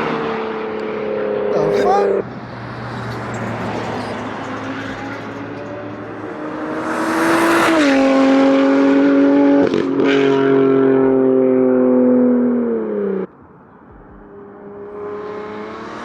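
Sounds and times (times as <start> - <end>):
car engine revving: 0.0 - 13.3, 13.9 - 16.0.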